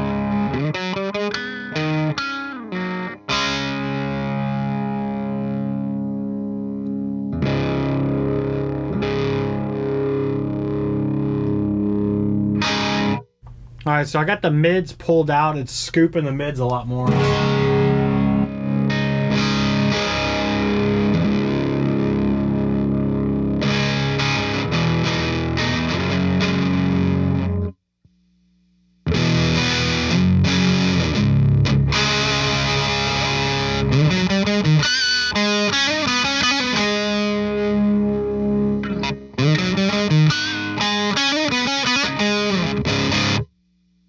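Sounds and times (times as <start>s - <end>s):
distorted electric guitar: 0.0s - 13.2s, 16.7s - 27.7s, 29.1s - 43.5s.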